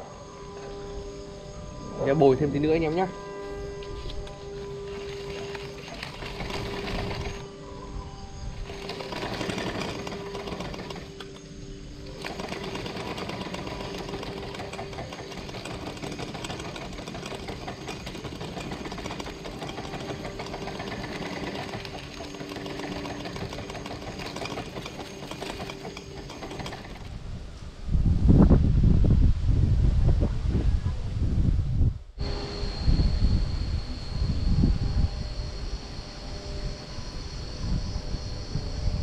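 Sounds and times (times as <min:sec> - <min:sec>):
rough wind noise: 0:03.1 - 0:11.3, 0:12.2 - 0:35.9.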